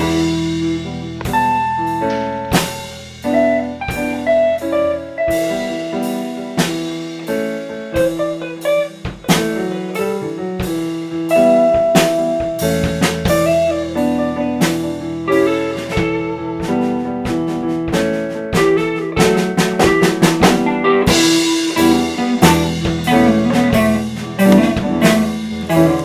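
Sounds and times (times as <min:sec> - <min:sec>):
instrumental background music: 0:00.0 - 0:26.0.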